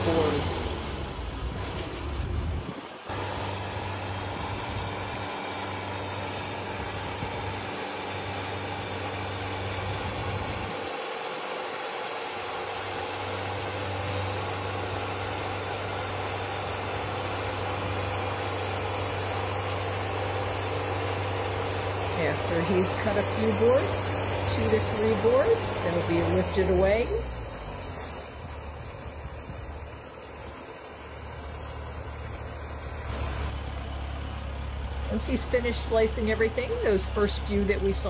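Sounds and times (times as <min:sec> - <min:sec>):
saw slicing log: 0:00.0 - 0:37.7
band sawmill engine humming: 0:00.0 - 0:38.0.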